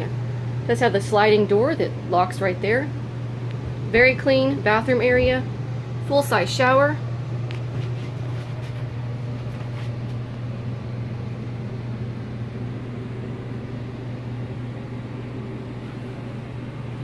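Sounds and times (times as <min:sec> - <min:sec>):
climate control hum: 0:00.0 - 0:17.0.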